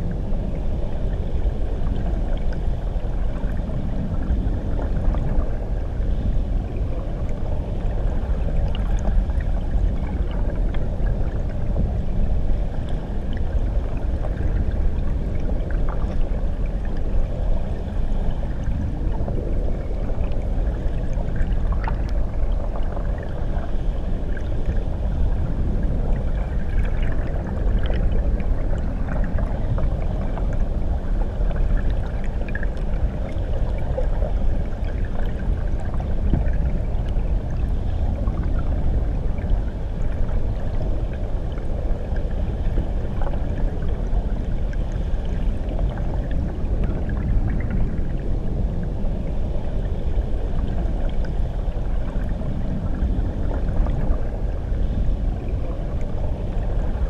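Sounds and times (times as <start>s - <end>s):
muffled churning water rumble: 0.0s - 57.0s.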